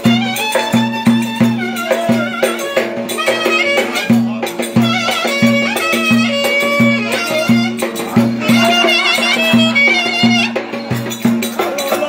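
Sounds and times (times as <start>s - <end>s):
clarinet melody: 0.0s - 11.1s
frame drum beat: 0.0s - 12.0s
plucked string instrument: 0.0s - 12.0s.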